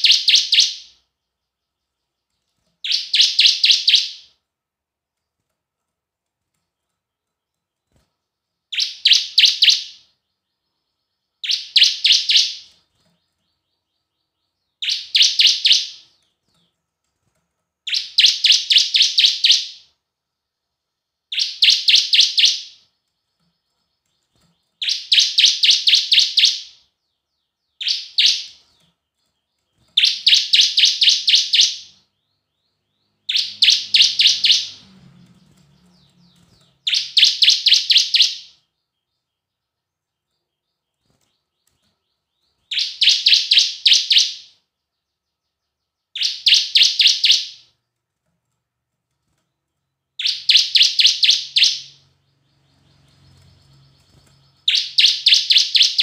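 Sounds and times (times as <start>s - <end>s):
bird singing high chip notes: 0.0s - 2.2s, 2.8s - 4.3s, 8.7s - 16.6s, 17.9s - 19.9s, 21.3s - 47.8s, 50.2s - 56.0s.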